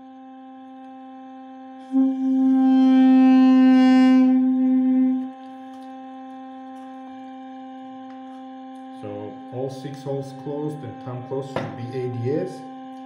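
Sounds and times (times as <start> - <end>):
duduk playing long note: 0.0 - 13.0
steady drone tone: 0.0 - 13.0.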